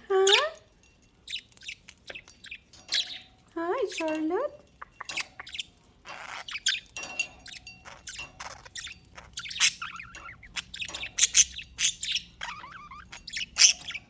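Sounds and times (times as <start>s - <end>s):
budgies chattering: 0.1s - 14.0s.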